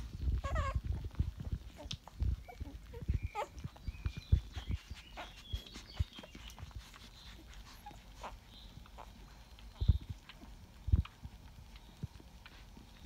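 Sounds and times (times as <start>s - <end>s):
puppies squeaking and whining: 0.1s - 11.1s.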